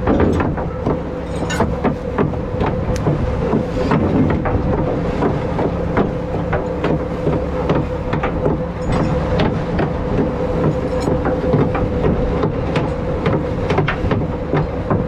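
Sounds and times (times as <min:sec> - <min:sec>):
boat engine drone: 0:00.0 - 0:15.0
sharp knocks and rattles: 0:00.0 - 0:15.0.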